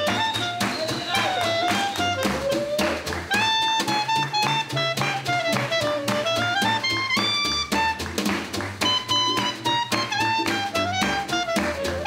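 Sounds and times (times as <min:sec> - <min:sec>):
clarinet melody: 0:00.0 - 0:12.0
snare drum beat: 0:00.0 - 0:12.0
strummed small guitar: 0:00.0 - 0:12.0
walking double bass: 0:00.0 - 0:12.0.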